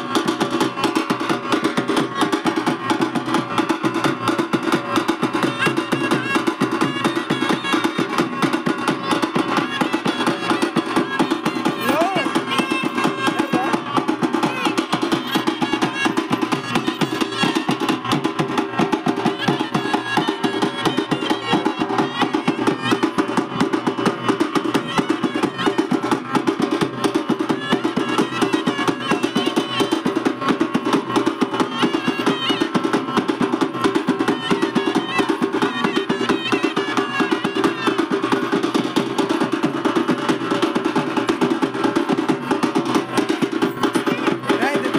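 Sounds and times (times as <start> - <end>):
fast drumming: 0.0 - 44.9
wind instrument melody: 0.0 - 44.9.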